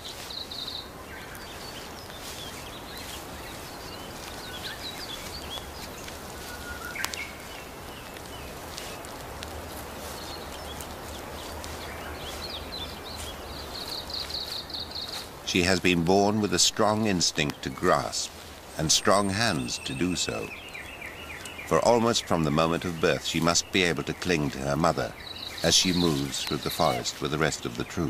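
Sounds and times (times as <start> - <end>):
high bird chirps: 0.0 - 8.9, 10.0 - 15.3, 17.5 - 28.0
steady background hiss: 0.0 - 28.0.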